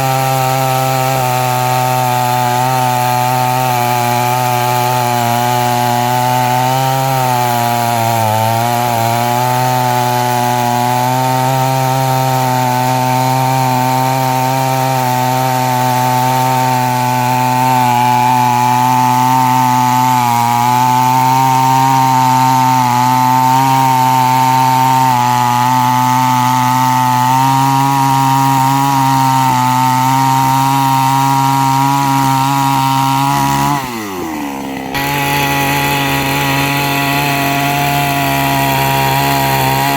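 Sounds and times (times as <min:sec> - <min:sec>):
chainsaw cutting a tree trunk: 0:00.0 - 0:39.9.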